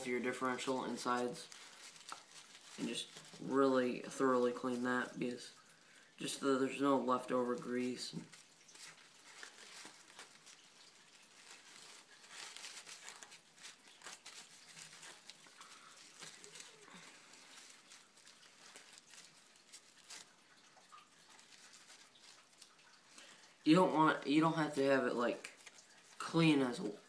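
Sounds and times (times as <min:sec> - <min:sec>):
faint rubbing and scraping: 0:00.0 - 0:27.0.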